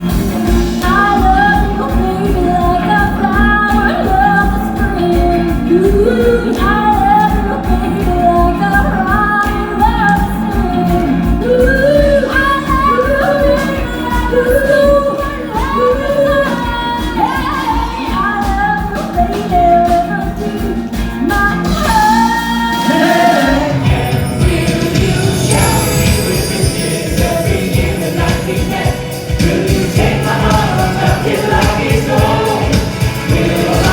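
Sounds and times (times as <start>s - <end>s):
live rock band playing: 0.0s - 33.9s
woman singing: 0.7s - 33.9s.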